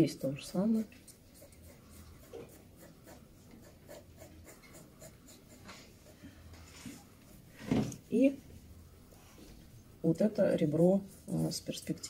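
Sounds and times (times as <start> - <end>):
pencil scratching on paper: 0.0 - 8.3, 10.3 - 12.0.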